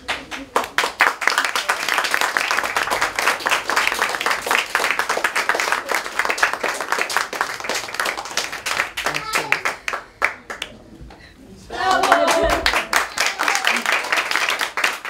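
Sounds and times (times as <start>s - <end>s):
people applauding: 0.0s - 10.7s, 11.8s - 15.0s.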